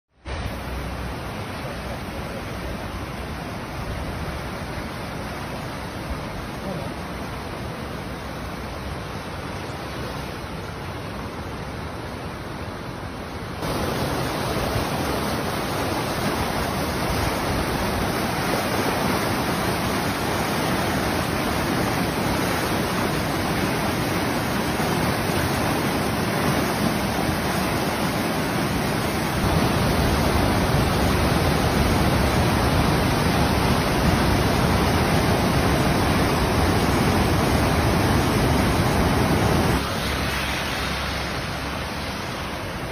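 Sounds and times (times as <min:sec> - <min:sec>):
flooded river rushing: 0:00.2 - 0:42.9.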